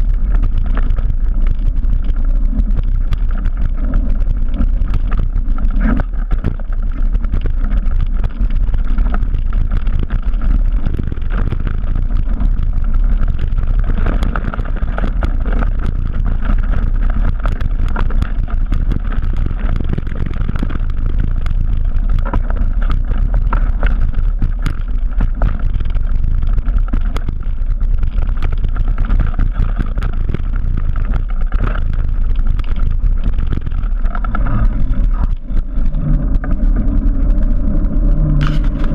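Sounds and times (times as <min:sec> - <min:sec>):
bike rattling over ground: 0:00.0 - 0:38.9
wind rushing on microphone: 0:00.0 - 0:38.9.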